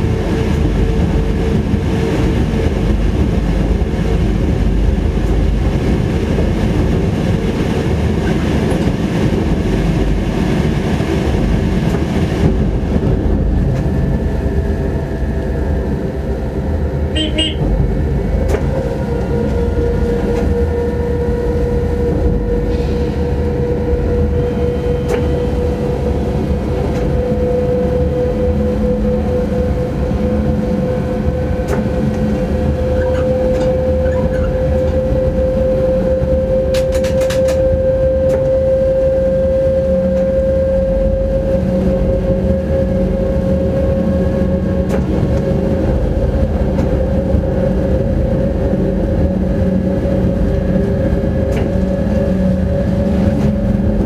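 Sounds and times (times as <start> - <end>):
train running gear rumble: 0.0 - 54.0.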